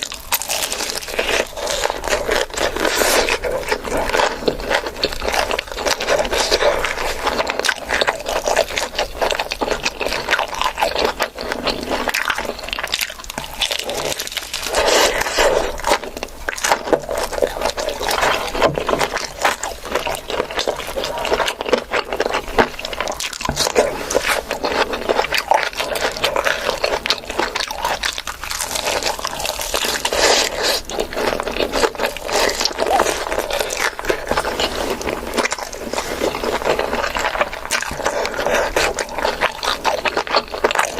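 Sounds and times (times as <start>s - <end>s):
food scraping: 0.0s - 40.9s
wet chewing and crunching: 0.0s - 40.9s.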